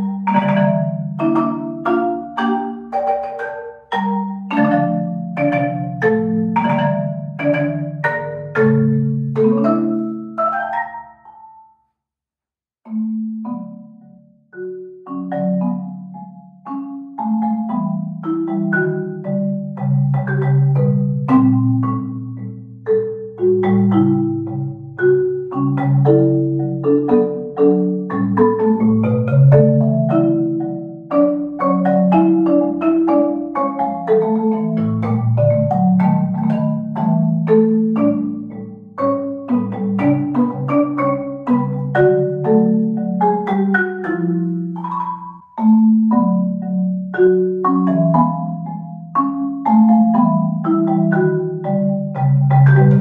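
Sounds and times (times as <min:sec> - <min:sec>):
marimba tango melody: 0:00.0 - 0:11.9, 0:12.8 - 0:53.0.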